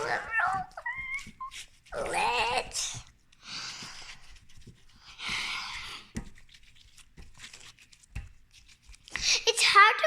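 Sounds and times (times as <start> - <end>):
slime rubbed between hands: 0.0 - 9.6.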